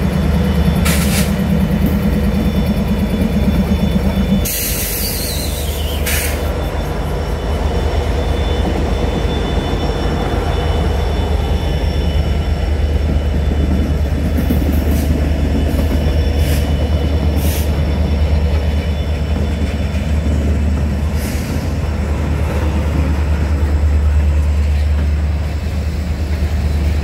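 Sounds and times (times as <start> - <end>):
diesel locomotives rumbling: 0.0 - 27.0.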